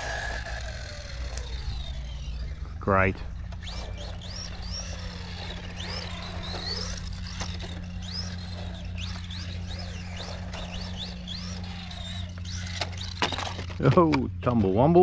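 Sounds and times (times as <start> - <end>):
electric motor whining: 0.0 - 15.0
steady low hum: 0.0 - 15.0.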